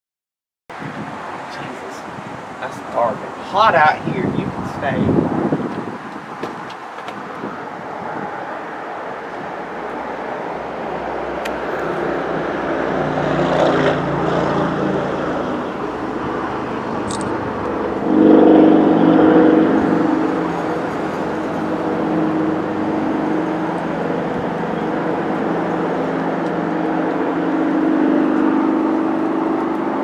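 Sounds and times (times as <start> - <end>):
vehicles passing on road: 0.7 - 30.0.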